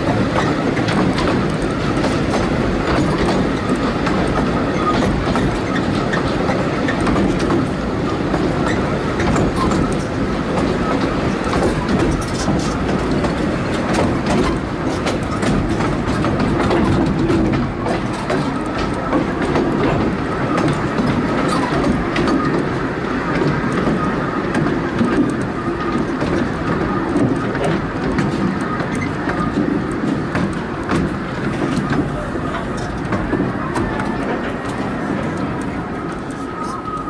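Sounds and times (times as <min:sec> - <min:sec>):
railway carriage rumbling: 0:00.0 - 0:37.0
clicks and knocks from rails: 0:00.1 - 0:37.0.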